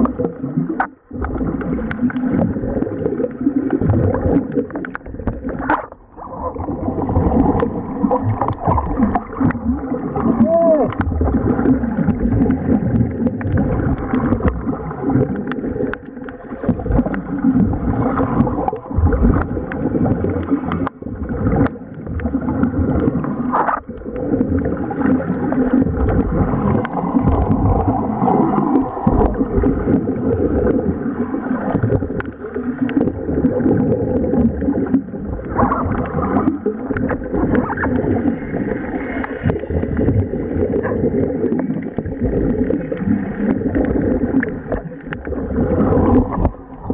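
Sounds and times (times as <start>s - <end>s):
air bubbling underwater: 0.0s - 46.9s.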